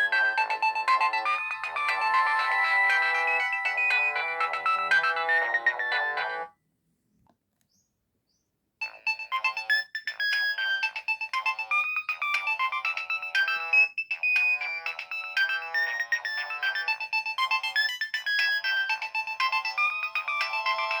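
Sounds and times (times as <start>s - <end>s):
electronic ringtone melody: 0.0s - 6.5s, 8.8s - 21.0s.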